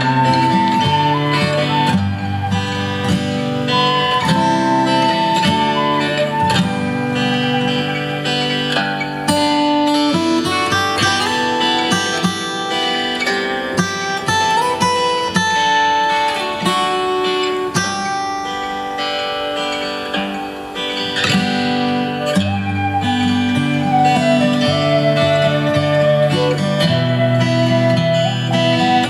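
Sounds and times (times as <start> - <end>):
acoustic guitar: 0.0 - 29.0
flute melody: 0.0 - 29.0.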